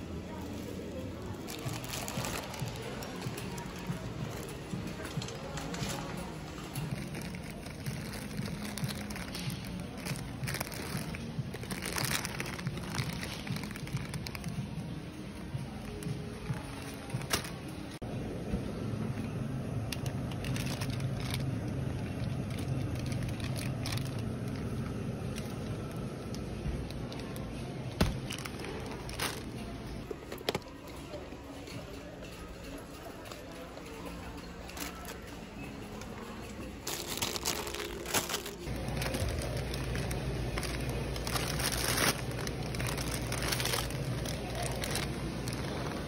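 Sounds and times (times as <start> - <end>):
refrigerator cases humming: 0.0 - 46.0
plastic wrappers crinkling: 1.2 - 18.0, 19.9 - 31.2, 32.3 - 46.0.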